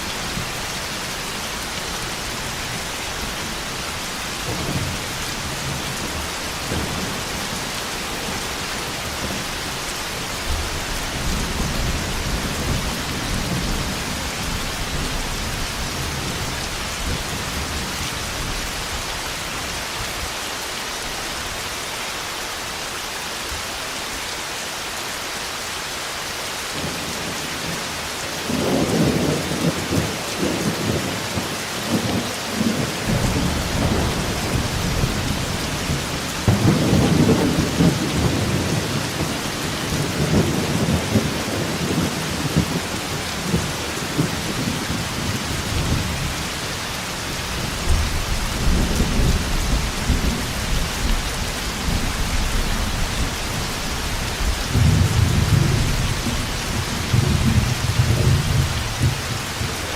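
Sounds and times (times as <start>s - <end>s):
thunder rumbling: 0.0s - 18.5s, 28.4s - 46.4s, 47.5s - 59.9s
heavy rain falling: 0.0s - 59.9s.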